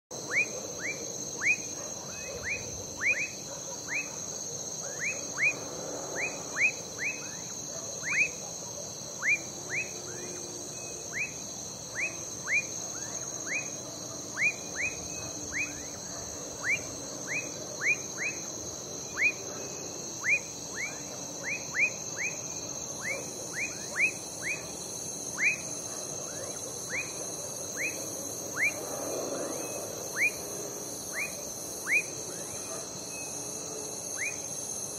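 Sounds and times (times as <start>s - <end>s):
crickets trilling: 0.1s - 34.9s
frogs whistling: 0.2s - 4.2s, 4.8s - 8.5s, 9.1s - 18.5s, 19.1s - 19.4s, 20.1s - 28.8s, 29.4s - 30.5s, 31.1s - 34.5s.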